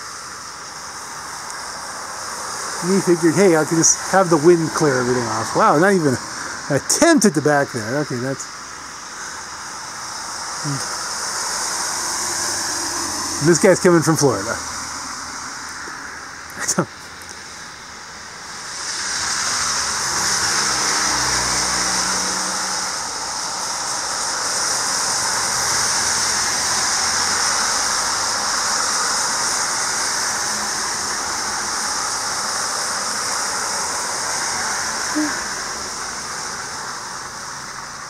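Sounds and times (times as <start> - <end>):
tyres hissing through wet slush: 0.0 - 38.0.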